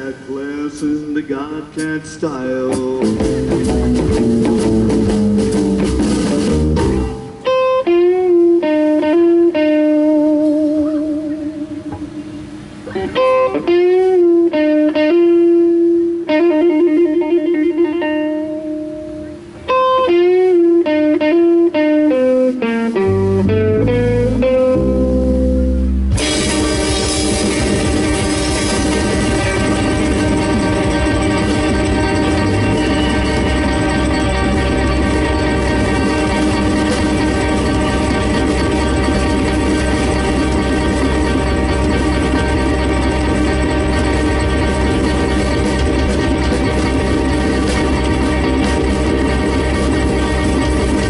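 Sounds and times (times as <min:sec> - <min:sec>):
live rockabilly band: 0:00.0 - 0:51.0
low bass notes: 0:01.8 - 0:51.0
electric guitar solo: 0:03.0 - 0:51.0.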